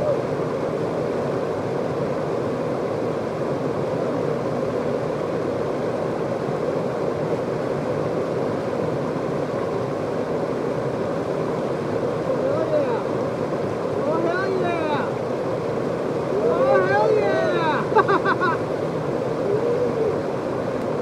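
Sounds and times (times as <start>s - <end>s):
river rapids rushing: 0.0s - 21.0s.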